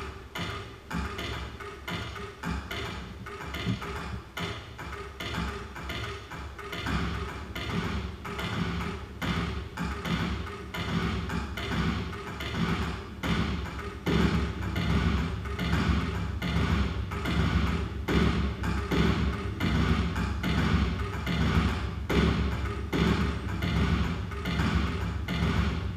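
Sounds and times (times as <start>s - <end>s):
tapping and thudding rhythm: 0.0s - 25.9s.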